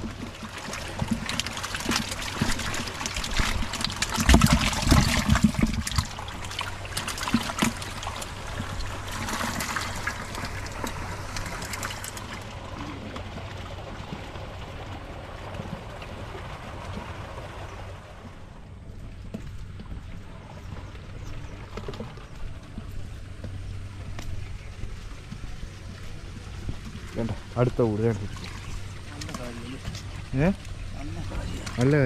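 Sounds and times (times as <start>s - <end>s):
shallow water splashing: 0.0s - 32.0s.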